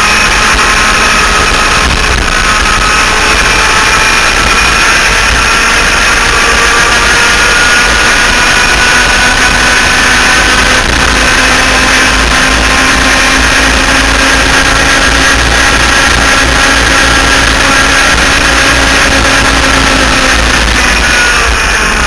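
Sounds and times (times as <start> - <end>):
two-stroke engines at high revs: 0.0 - 22.0
wind noise: 0.0 - 22.0.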